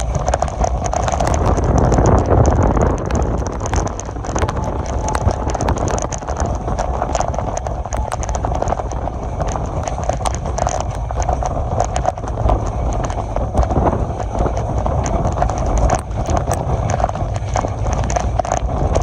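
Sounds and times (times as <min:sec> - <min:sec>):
train clicking and clatter: 0:00.0 - 0:19.0
train running gear rumble: 0:00.0 - 0:19.0.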